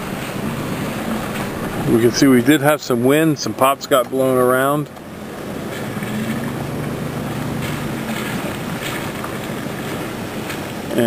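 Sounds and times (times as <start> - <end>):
wind on microphone: 0.0 - 4.3, 4.9 - 11.0
low engine hum: 0.0 - 11.0.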